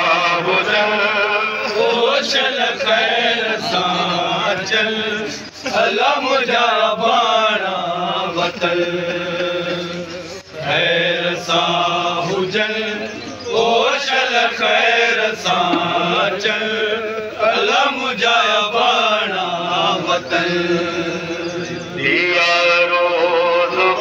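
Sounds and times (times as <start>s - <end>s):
men chanting in unison: 0.0s - 24.0s.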